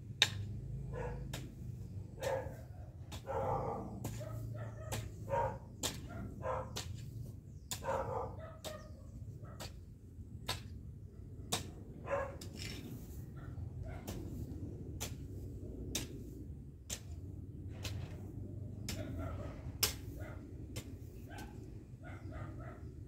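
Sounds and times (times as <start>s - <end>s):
garden tool striking dry ground: 0.1s - 13.2s, 14.0s - 21.6s.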